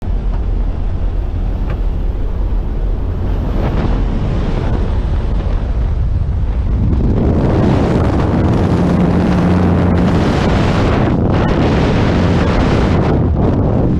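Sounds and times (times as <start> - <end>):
wind rushing over microphone: 0.0 - 13.9.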